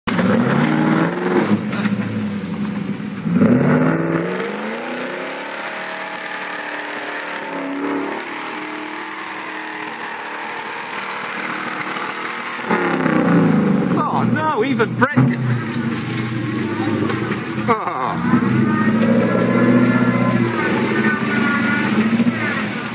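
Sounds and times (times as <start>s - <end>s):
off-road engine revving: 0.1s - 22.9s.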